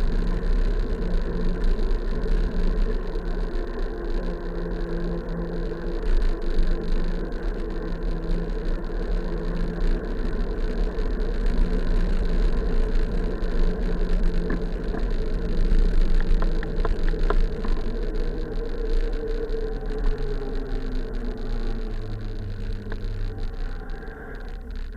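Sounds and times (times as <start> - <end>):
engine drone: 0.0 - 24.9
wind rumbling on microphone: 0.0 - 24.9.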